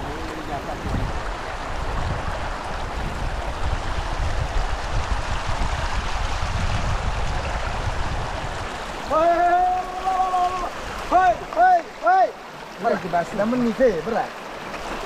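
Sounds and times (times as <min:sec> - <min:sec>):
river rushing over stones: 0:00.0 - 0:15.0.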